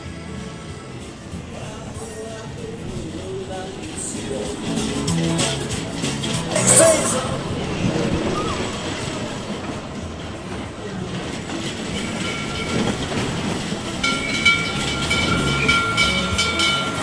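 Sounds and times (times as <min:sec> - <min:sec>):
roller coaster rumbling on track: 0:00.0 - 0:17.0.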